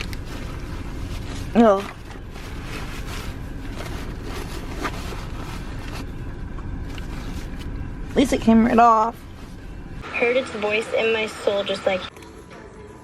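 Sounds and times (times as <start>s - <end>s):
car road noise: 0.0s - 12.1s.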